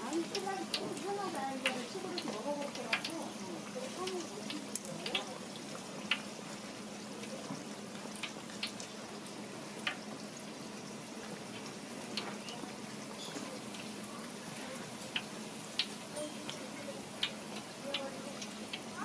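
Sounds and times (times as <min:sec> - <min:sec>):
bubbling sizzle of deep-frying: 0:00.0 - 0:19.0.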